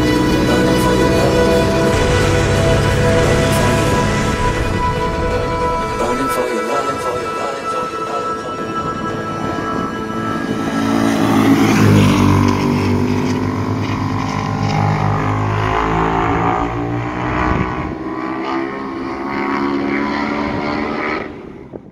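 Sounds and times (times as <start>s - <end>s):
motorcycle engines accelerating: 0.0s - 21.9s.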